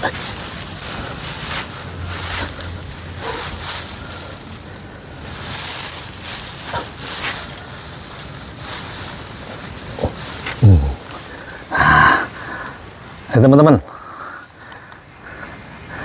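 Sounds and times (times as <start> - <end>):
dry grass rustling: 0.0 - 13.7.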